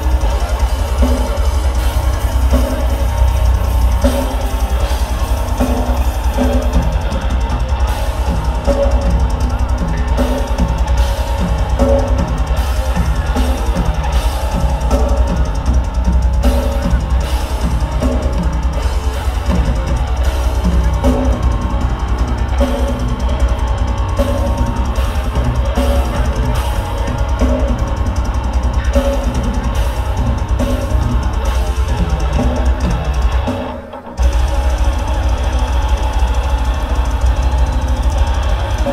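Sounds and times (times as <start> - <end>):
fast bass drum: 0.0 - 38.9
heavy metal band playing: 0.0 - 38.9.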